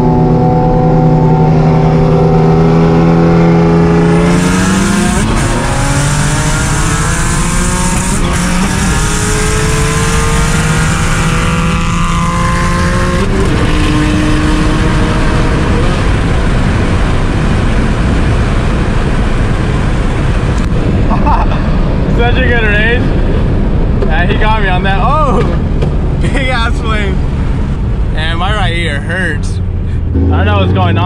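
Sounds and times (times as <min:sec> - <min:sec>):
car engine at full throttle: 0:00.0 - 0:31.0.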